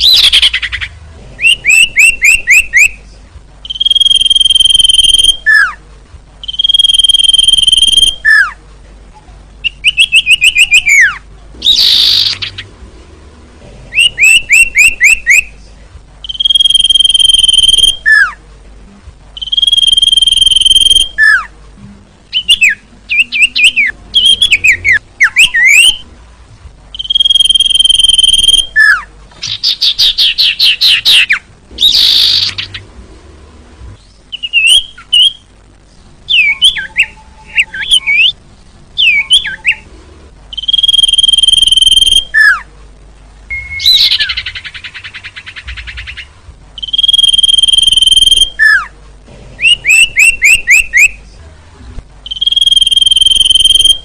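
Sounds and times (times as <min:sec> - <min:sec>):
bird chirping: 0:00.0 - 0:05.8, 0:06.4 - 0:08.6, 0:09.2 - 0:12.8, 0:13.7 - 0:18.4, 0:19.4 - 0:21.5, 0:22.3 - 0:26.1, 0:26.9 - 0:33.0, 0:33.9 - 0:38.4, 0:39.0 - 0:42.7, 0:43.5 - 0:51.4, 0:52.2 - 0:54.0.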